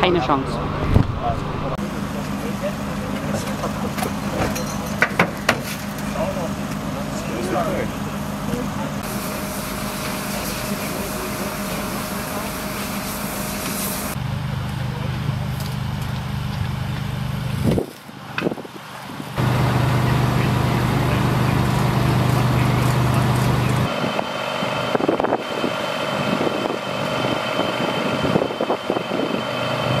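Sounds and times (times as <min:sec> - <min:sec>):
engines idling: 0:00.0 - 0:30.0.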